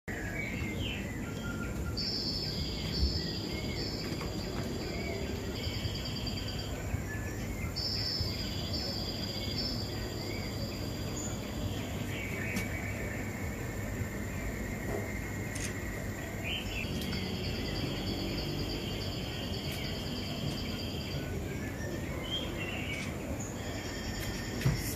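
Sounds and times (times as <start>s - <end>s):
lower bird chirps: 0.1s - 24.9s
steady background noise: 0.1s - 24.9s.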